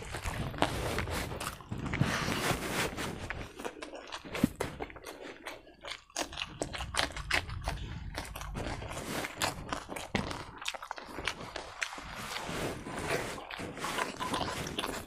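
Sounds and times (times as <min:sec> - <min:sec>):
chili crunching: 0:00.0 - 0:15.0
person chewing food: 0:00.0 - 0:15.0.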